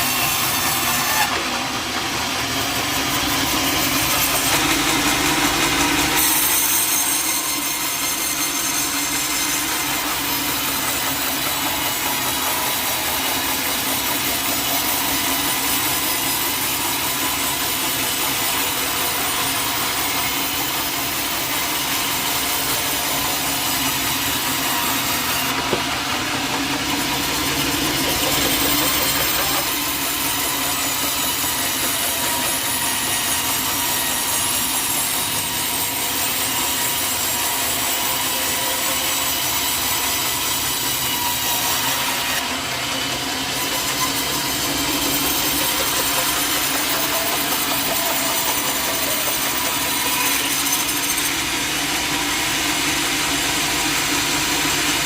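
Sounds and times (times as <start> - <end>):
saw cutting through wood: 0.0 - 55.0.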